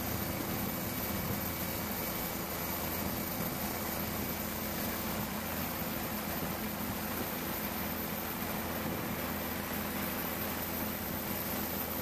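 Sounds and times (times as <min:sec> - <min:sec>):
aircraft engine and rotor drone: 0:00.0 - 0:12.0.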